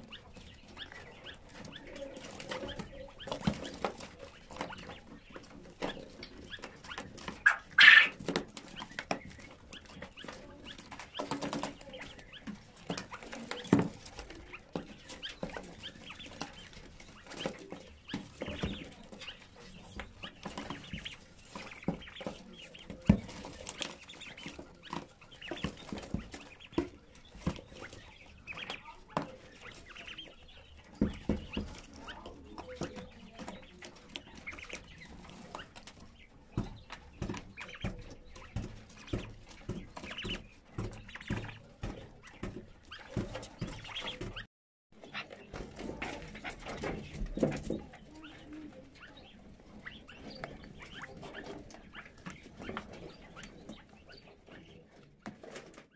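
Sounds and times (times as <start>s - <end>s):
chicks pecking on gravelly litter: 0.0s - 55.9s
scratches and rustles: 0.0s - 55.9s
soft chick calls: 0.0s - 55.9s.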